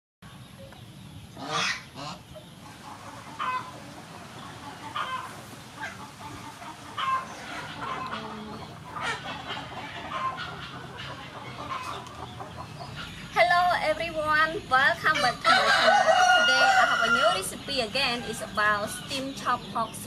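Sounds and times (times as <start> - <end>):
poultry calling: 1.3 - 20.0.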